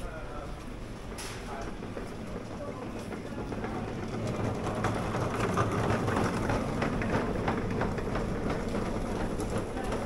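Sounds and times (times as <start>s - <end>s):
faint clicks and clatter: 0.6s - 10.0s.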